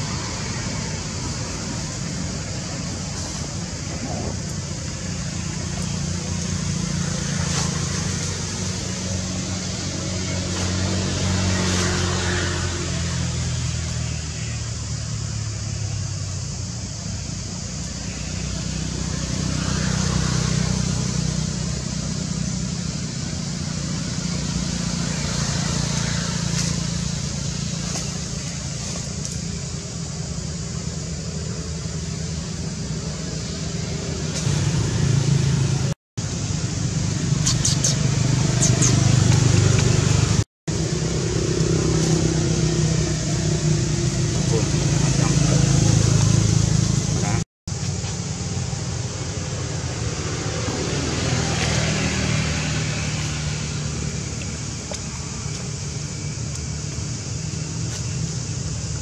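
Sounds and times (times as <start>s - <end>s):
low engine hum: 0.0s - 59.0s.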